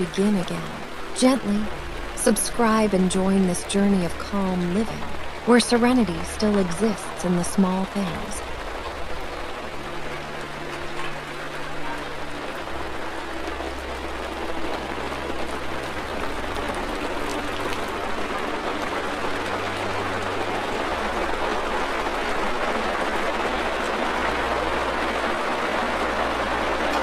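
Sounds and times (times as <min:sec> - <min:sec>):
steady rain: 0:00.0 - 0:27.0.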